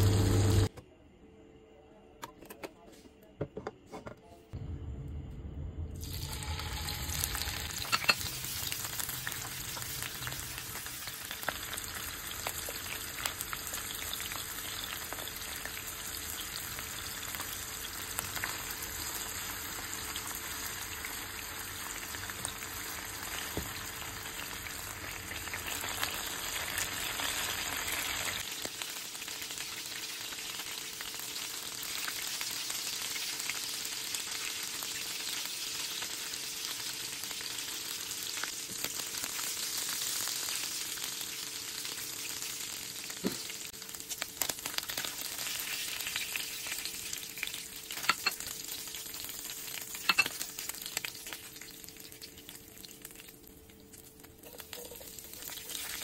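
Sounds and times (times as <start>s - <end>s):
shrimps sizzling in oil: 6.0s - 56.0s.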